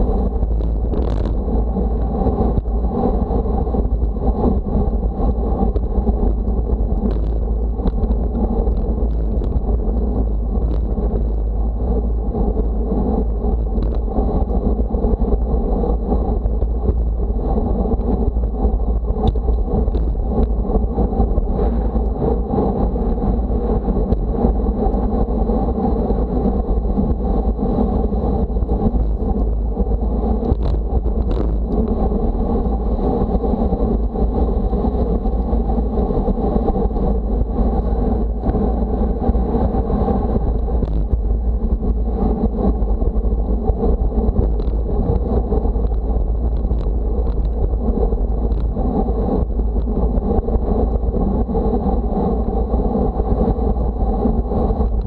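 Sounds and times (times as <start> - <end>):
rolling road noise: 0.0 - 55.0
wind buffeting microphone: 0.0 - 55.0.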